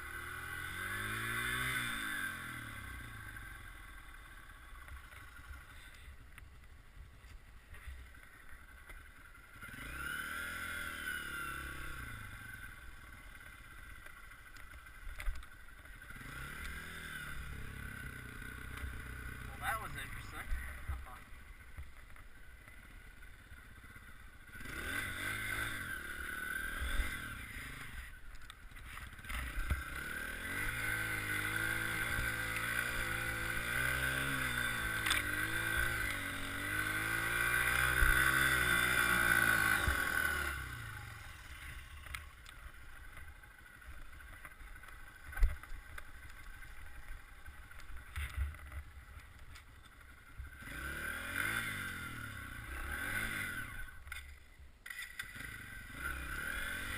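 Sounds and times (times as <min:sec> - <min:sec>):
dirt bike engine revving: 0:00.0 - 0:06.0, 0:09.1 - 0:49.3, 0:50.0 - 0:56.9.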